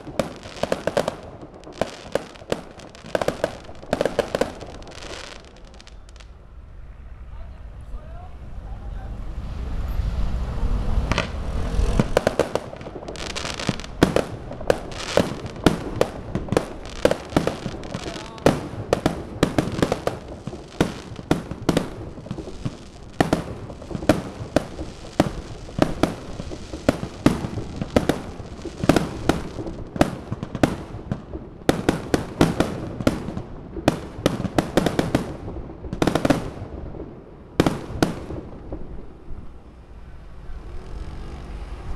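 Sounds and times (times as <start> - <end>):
fireworks banging: 0.0 - 6.6, 7.9 - 41.9.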